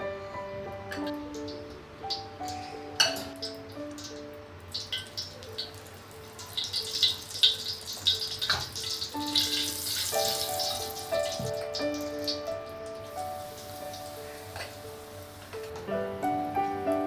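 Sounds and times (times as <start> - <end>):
background music with held notes: 0.0 - 17.0
high hiss of kitchen work: 0.0 - 17.0.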